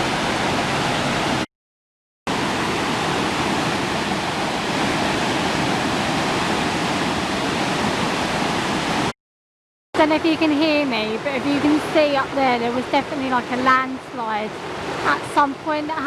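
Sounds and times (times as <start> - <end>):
river water rushing: 0.0 - 1.5, 2.3 - 9.1, 10.0 - 16.0.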